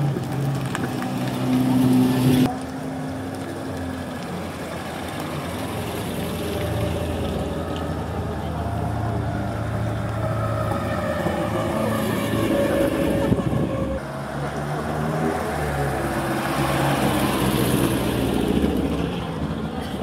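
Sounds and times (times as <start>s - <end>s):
cars driving slowly past: 0.0s - 20.0s.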